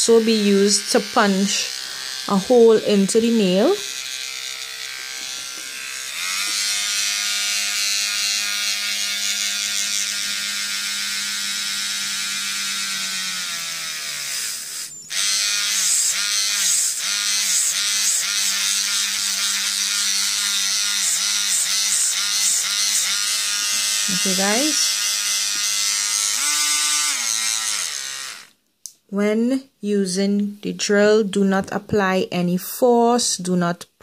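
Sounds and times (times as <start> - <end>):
electric nail drill whining: 0.0 - 28.6
drill bit grinding nail: 0.2 - 28.6.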